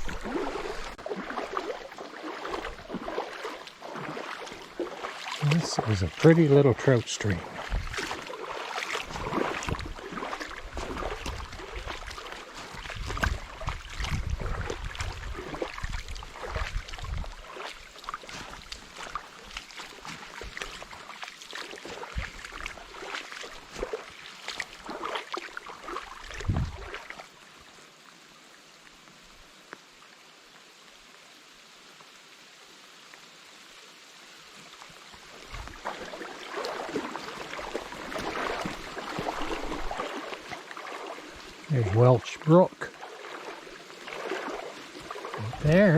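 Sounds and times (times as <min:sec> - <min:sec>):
water splashing: 0:00.0 - 0:27.9, 0:34.5 - 0:45.9
stream running over stones: 0:00.0 - 0:45.9.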